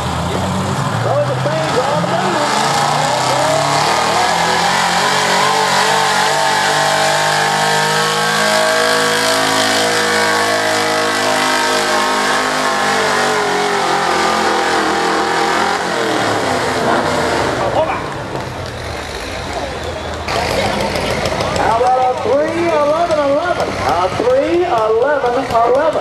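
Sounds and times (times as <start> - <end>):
truck engine revving under load: 0.0 - 26.0.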